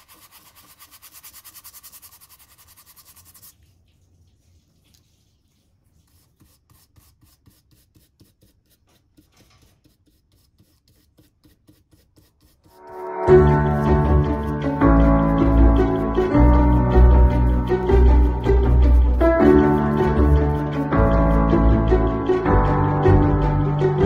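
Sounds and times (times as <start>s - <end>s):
brush scrubbing on canvas: 0.0s - 21.5s.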